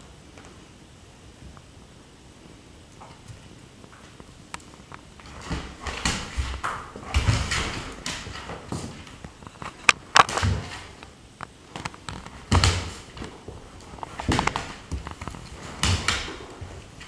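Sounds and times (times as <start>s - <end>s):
animals scuffling on a mat: 3.0s - 17.0s.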